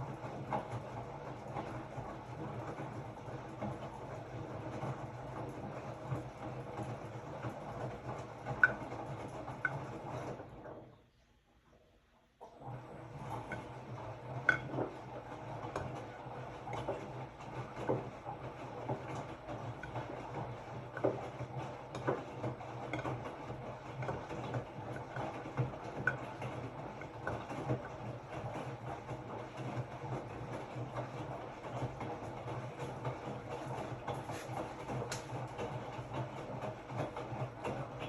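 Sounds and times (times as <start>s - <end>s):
washing machine motor hum: 0.0s - 38.0s.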